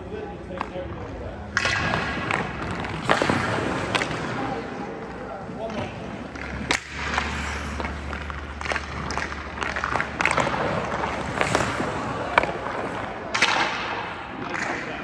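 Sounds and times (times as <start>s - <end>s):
stick and puck clacks: 0.4s - 15.0s
skate blades scraping ice: 1.6s - 14.6s.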